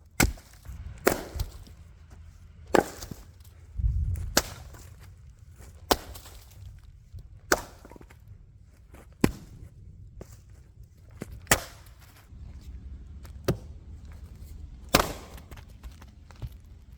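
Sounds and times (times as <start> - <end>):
axe chopping firewood: 0.0 - 1.8, 2.6 - 8.2, 8.9 - 10.5, 11.1 - 16.9.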